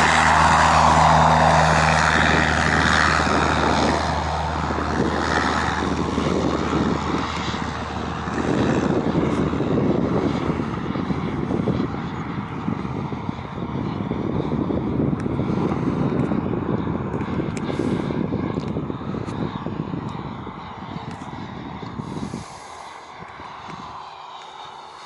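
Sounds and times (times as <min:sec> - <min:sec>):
model jet turbine rushing: 0:00.0 - 0:25.0.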